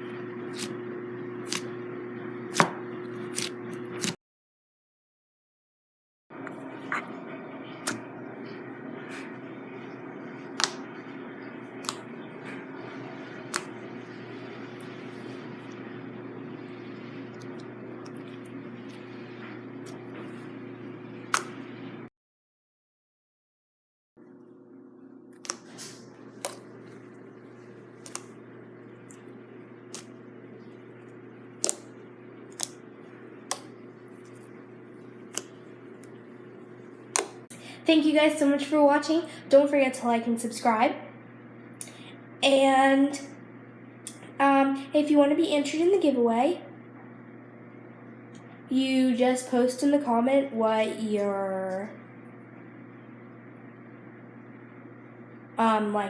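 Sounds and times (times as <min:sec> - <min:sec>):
steady low hum: 0:00.0 - 0:04.2, 0:06.3 - 0:22.1, 0:24.2 - 0:56.0.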